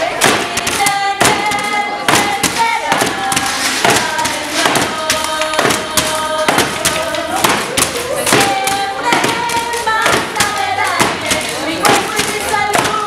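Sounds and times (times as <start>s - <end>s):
group singing in unison: 0.0s - 13.0s
plastic bottles thumped as beat: 0.0s - 13.0s.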